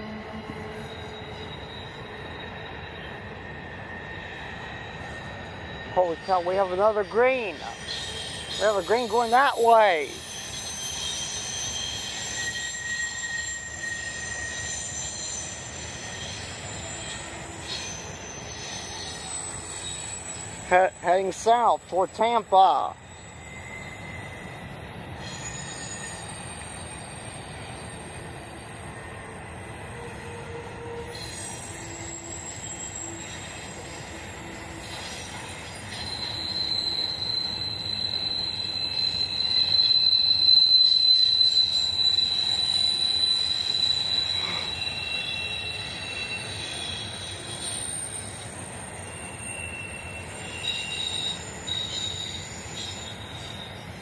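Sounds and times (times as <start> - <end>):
train wheels rumbling on rail: 0.0 - 54.0
train wheels squealing: 0.0 - 54.0.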